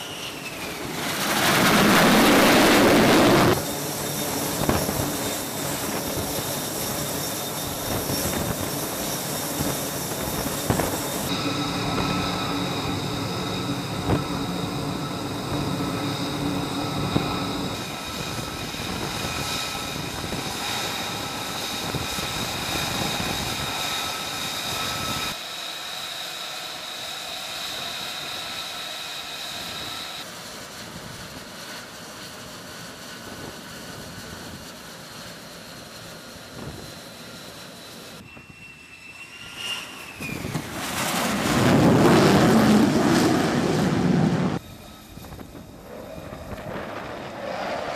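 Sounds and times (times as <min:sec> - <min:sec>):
loud rush of jet noise: 0:00.0 - 0:30.3, 0:36.5 - 0:47.9
jet engines whining: 0:00.0 - 0:47.9.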